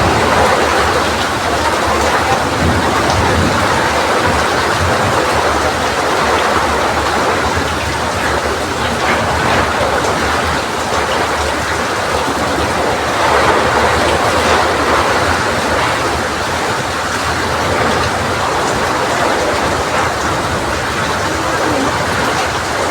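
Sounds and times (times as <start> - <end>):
heavy rain in strong wind: 0.0 - 22.9.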